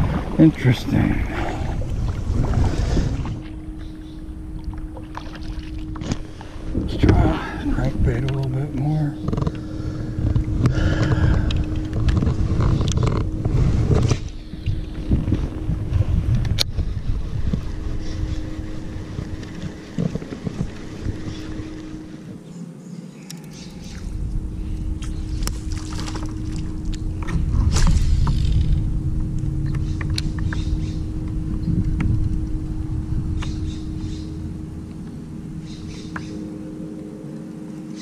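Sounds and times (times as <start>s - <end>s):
wind and water rumble: 0.0s - 38.0s.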